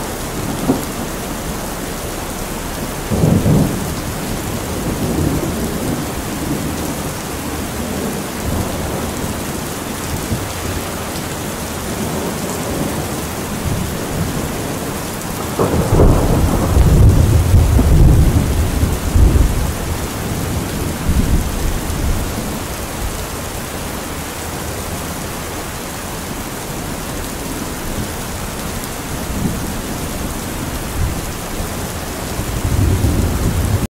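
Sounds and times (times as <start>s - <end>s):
steady rainfall: 0.0s - 33.9s
thunder rumbling: 0.0s - 33.9s.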